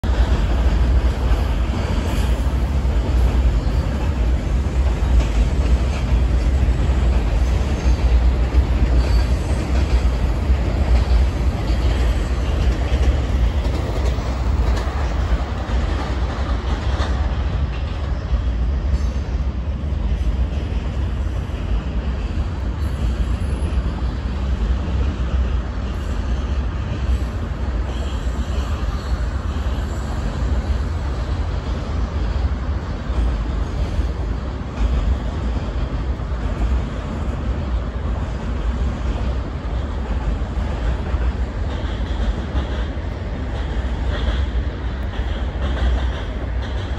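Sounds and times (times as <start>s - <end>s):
freight train rumbling over bridge: 0.0s - 46.9s.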